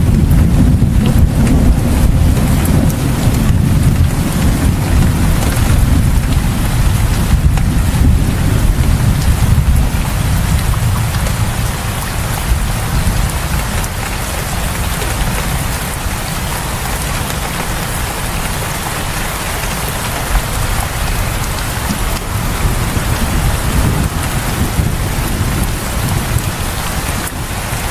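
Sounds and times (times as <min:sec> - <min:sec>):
heavy rain hissing: 0:00.0 - 0:27.9.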